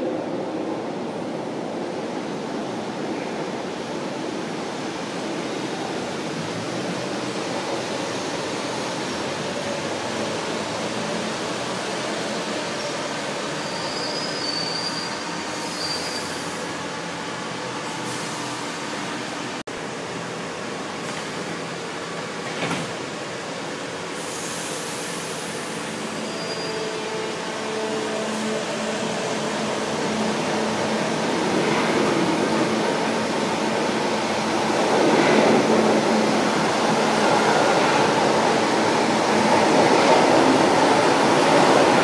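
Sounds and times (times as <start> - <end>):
train rumbling along platform: 0.0 - 42.0.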